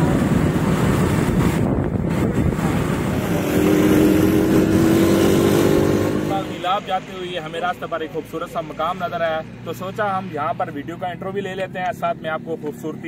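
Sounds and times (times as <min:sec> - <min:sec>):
rumbling road noise: 0:00.0 - 0:13.0.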